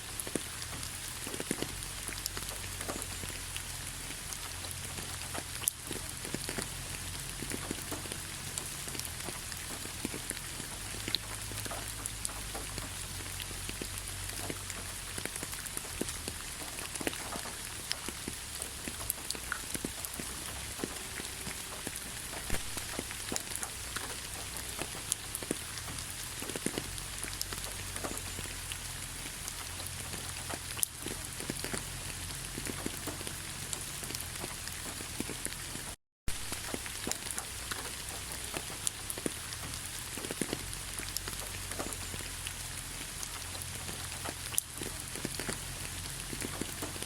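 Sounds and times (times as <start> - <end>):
rain falling steadily: 0.0 - 47.0.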